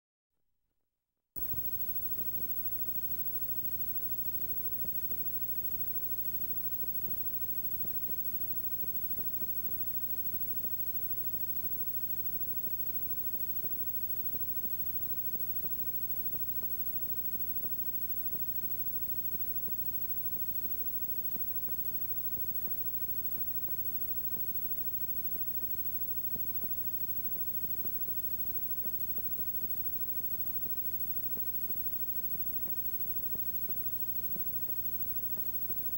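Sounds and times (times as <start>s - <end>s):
faint ticks: 1.4s - 35.9s
low electrical hum: 1.4s - 35.9s
tape hiss: 1.4s - 35.9s.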